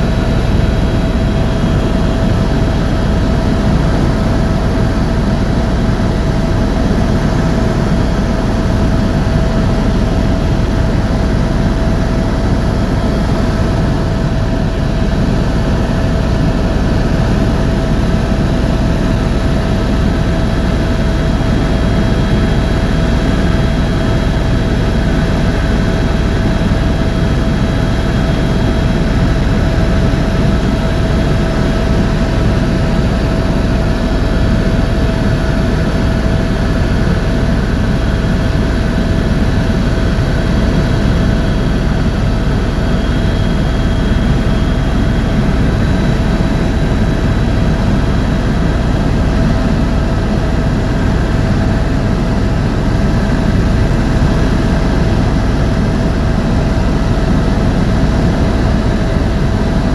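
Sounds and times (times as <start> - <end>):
constant whine: 0.0 - 59.9
helicopter engine and rotor drone: 0.0 - 59.9.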